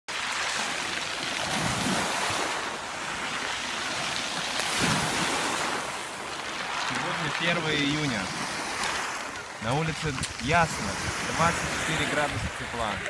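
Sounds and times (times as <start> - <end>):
waves washing over pebbles: 0.1 - 13.0.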